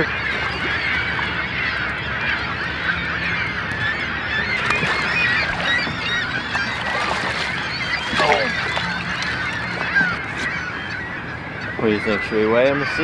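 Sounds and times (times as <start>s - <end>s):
water birds calling: 0.0s - 13.0s.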